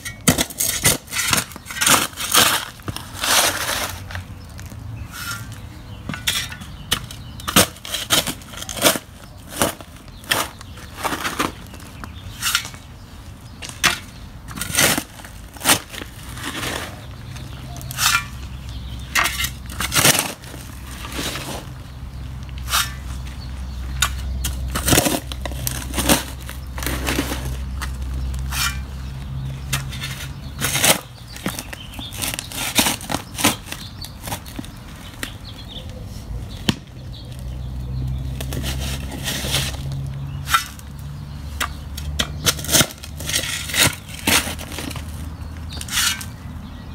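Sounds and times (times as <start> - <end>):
shovel digging rocky soil: 0.0 - 12.9, 13.7 - 17.1, 17.7 - 21.7, 22.6 - 23.1, 24.0 - 28.9, 29.7 - 34.6, 38.4 - 40.9, 41.6 - 46.4
shovel scraping against stones: 0.0 - 12.9, 13.6 - 21.8, 22.6 - 29.0, 29.7 - 34.7, 38.4 - 40.9, 41.6 - 46.4.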